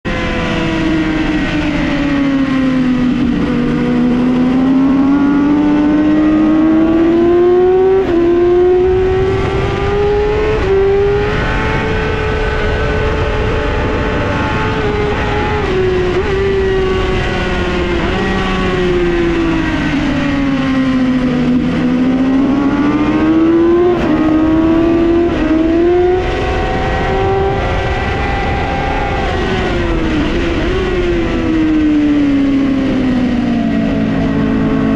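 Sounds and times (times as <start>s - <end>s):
motorcycle engine revving hard: 0.1s - 34.9s.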